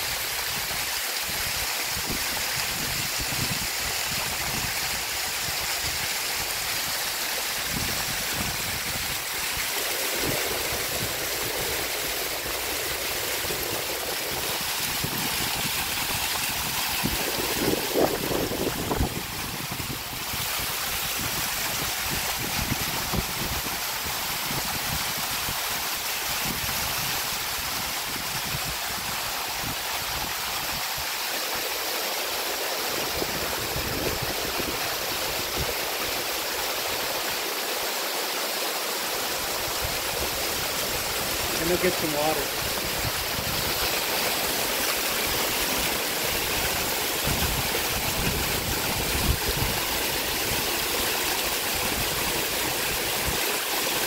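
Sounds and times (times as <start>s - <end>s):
rumble of falling water: 0.0s - 54.0s
waterfall rushing: 0.0s - 54.0s.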